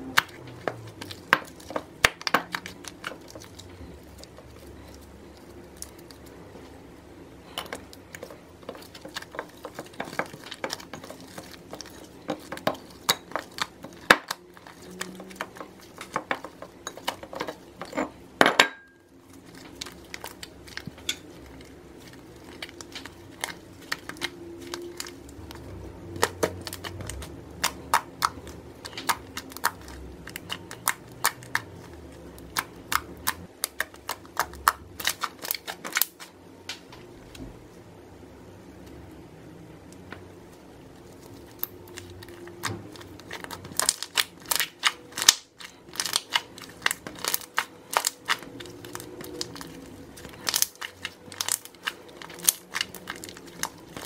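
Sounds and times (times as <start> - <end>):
slime clicking and crackling: 0.0 - 6.4, 7.7 - 18.0, 19.1 - 36.8, 41.0 - 54.0.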